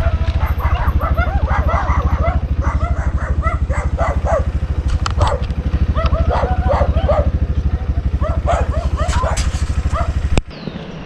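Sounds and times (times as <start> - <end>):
dog barking: 0.0 - 7.5, 8.1 - 10.3
motorcycle engine running: 0.0 - 11.0.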